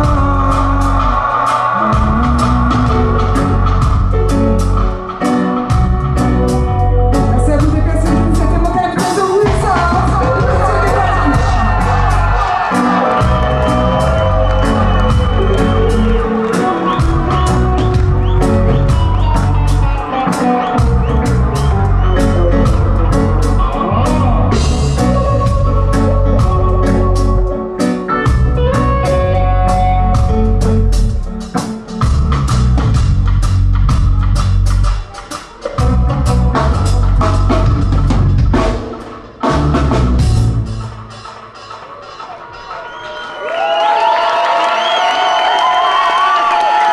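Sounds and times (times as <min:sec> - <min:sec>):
reggae band playing: 0:00.0 - 0:46.9.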